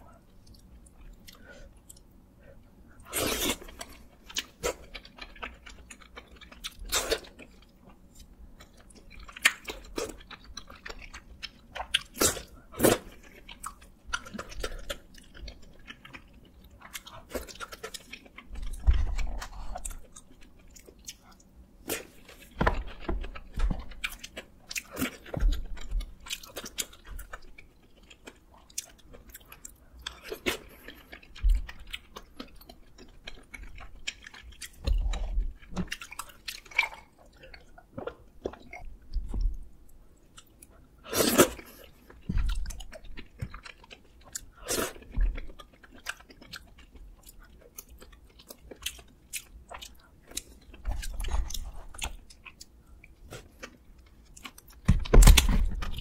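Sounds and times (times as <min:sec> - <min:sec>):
close-miked chewing: 0:00.0 - 0:56.0.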